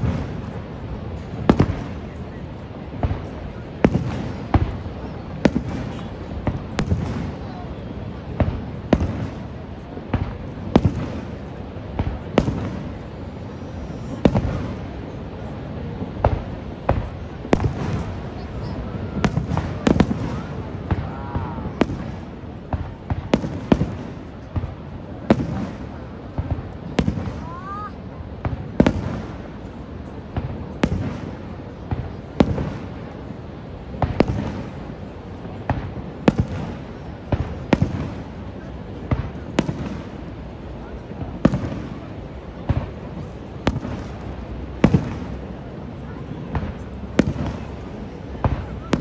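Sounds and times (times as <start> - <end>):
fireworks bursting: 0.0 - 49.0.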